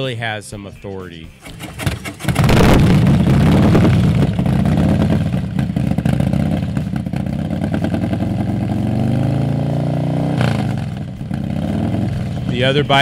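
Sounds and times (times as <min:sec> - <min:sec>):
motorcycle engine idling: 0:01.4 - 0:13.0.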